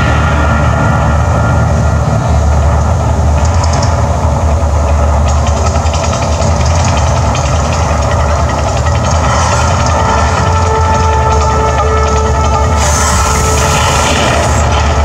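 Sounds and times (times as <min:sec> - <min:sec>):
deep continuous rumble: 0:00.0 - 0:15.0.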